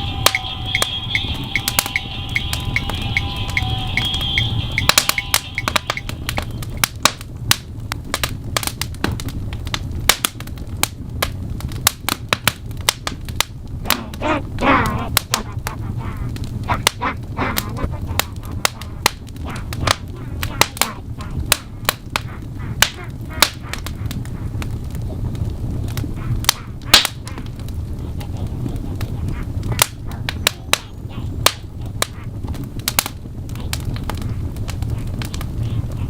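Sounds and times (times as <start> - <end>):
low rumble of flames: 0.0 - 36.0
sharp pops of fire: 0.0 - 36.0
wood fire crackling: 0.0 - 36.0.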